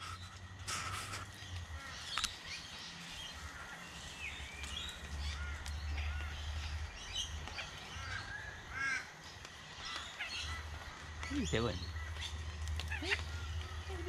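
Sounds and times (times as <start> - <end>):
bird calls and chirps: 0.0 - 14.0.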